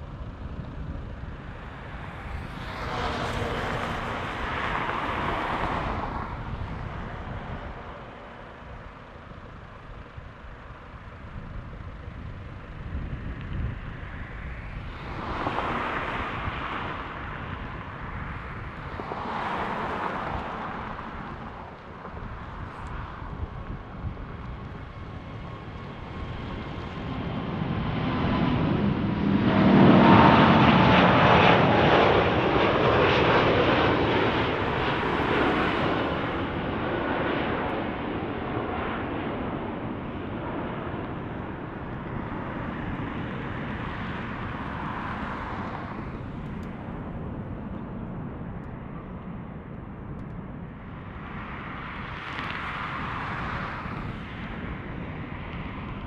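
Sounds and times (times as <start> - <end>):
jet engine whine: 0.0 - 56.0
jet engines roaring at takeoff: 0.0 - 56.0.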